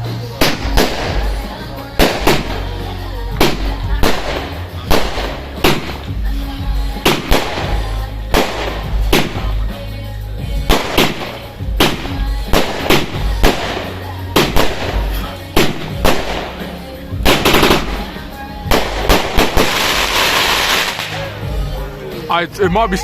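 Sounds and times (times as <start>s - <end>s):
fireworks bangs: 0.0s - 9.8s, 10.5s - 21.4s.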